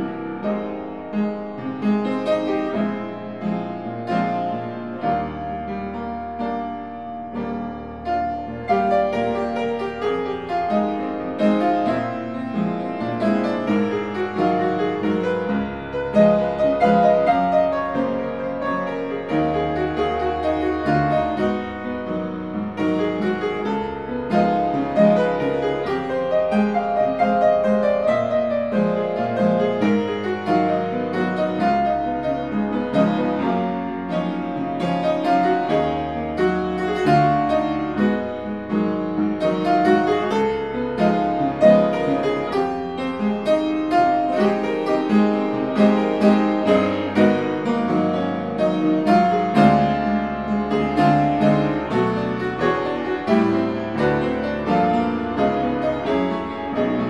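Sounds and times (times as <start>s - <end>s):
solo upright piano playing samba: 0.0s - 57.0s.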